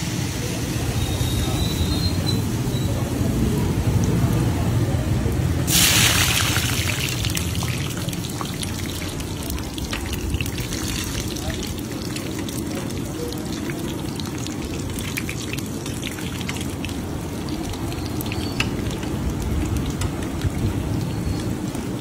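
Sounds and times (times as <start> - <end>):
fritters sizzling in hot oil: 0.0 - 22.0.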